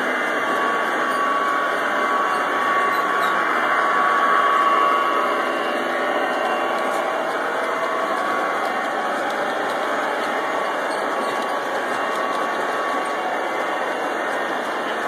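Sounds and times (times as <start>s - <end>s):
model train motor whining: 0.0s - 15.0s
train wheels rolling on track: 0.0s - 15.0s.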